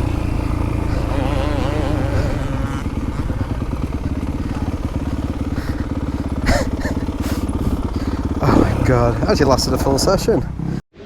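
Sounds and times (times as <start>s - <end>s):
motorbike engine running: 0.0s - 10.8s.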